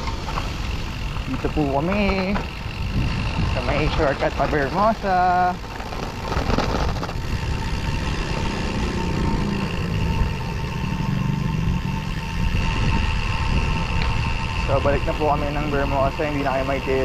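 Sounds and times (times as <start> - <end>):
tyre noise on concrete road: 0.0 - 17.0
wind buffeting microphone: 0.0 - 17.0.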